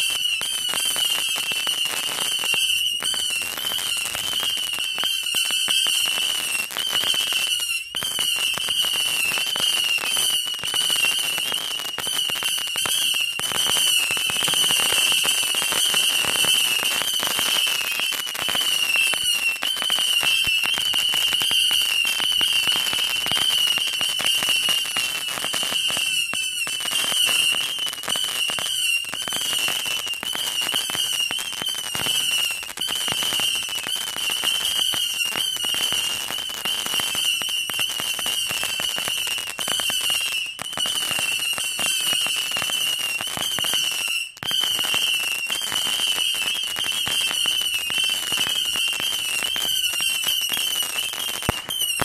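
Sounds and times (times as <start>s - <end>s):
firework barrage whistling: 0.0s - 52.0s
firework pops and crackles: 0.0s - 52.0s.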